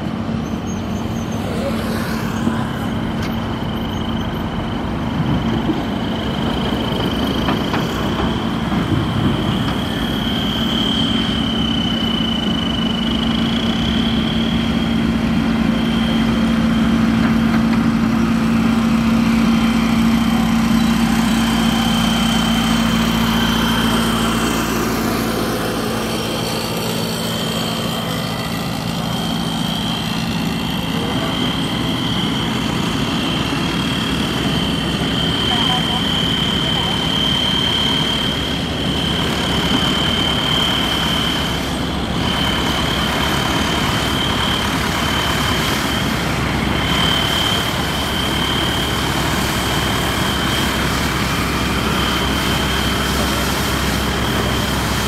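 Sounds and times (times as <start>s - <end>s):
diesel machinery engine hum: 0.0s - 55.0s
high whine: 0.0s - 55.0s.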